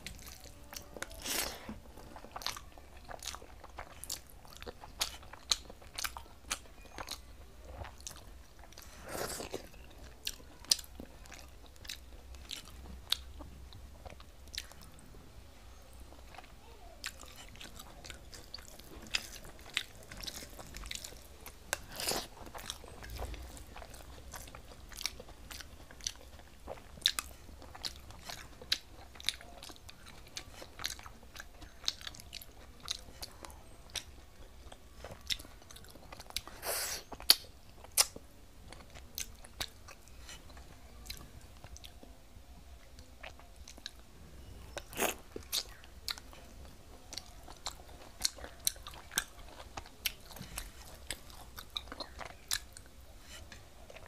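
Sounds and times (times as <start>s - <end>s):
person chewing food: 0.0s - 15.0s, 16.1s - 42.2s, 42.8s - 44.1s, 44.7s - 54.0s.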